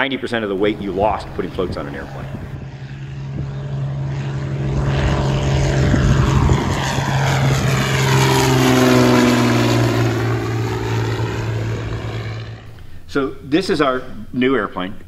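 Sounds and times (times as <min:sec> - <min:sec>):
propeller plane droning overhead: 0:00.0 - 0:15.0.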